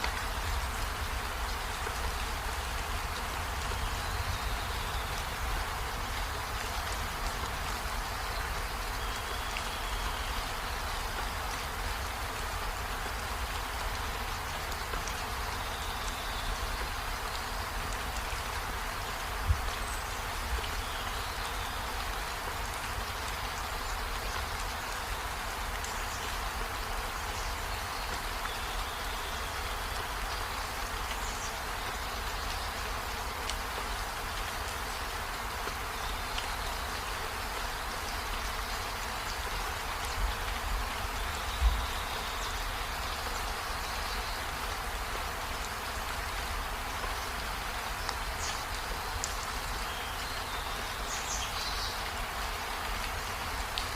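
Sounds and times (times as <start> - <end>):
steady rainfall: 0.0 - 53.9.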